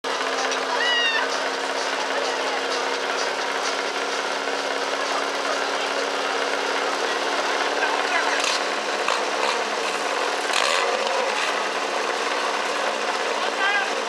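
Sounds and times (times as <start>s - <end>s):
crowd chatter: 0.0s - 14.0s
engine humming: 0.0s - 14.0s.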